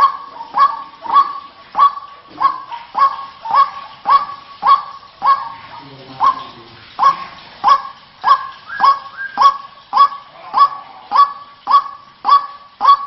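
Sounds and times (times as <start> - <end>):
waterhen harsh calls: 0.0 - 13.0.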